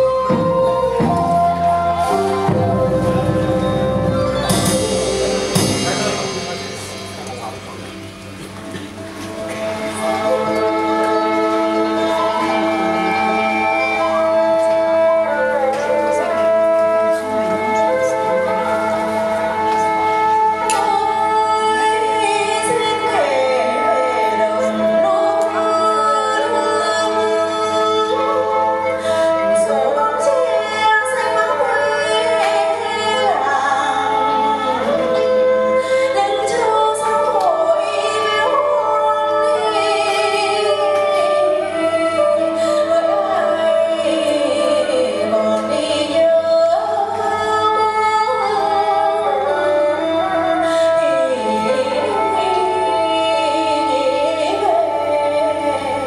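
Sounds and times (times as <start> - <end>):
woman singing: 0.0 - 6.4, 9.4 - 56.0
held instrumental notes: 0.0 - 56.0.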